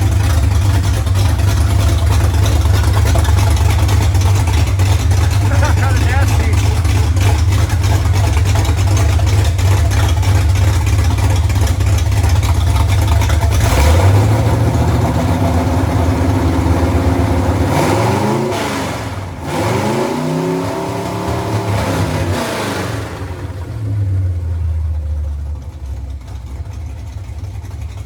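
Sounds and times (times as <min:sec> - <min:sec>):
engine running and revving: 0:00.0 - 0:24.9.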